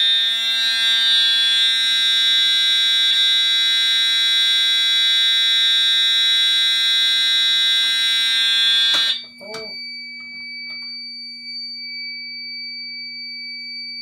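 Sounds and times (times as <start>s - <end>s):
fire alarm horn steady tone: 0.0s - 14.0s.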